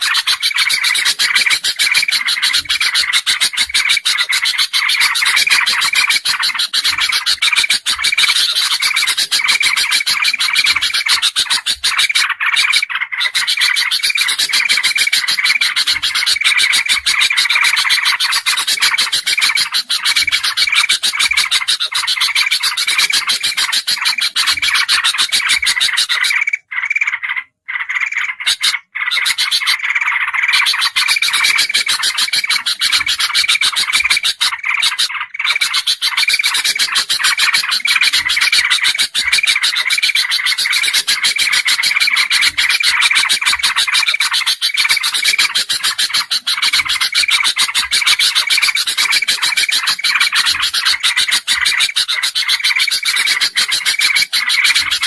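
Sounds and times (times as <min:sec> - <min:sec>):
chatter of bulbul calls: 0:00.0 - 0:55.0.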